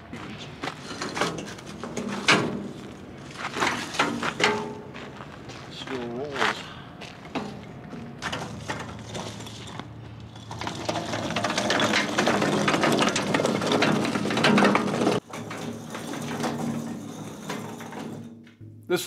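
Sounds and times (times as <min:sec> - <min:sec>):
metal cart rattling: 0:00.7 - 0:05.0, 0:07.4 - 0:18.4.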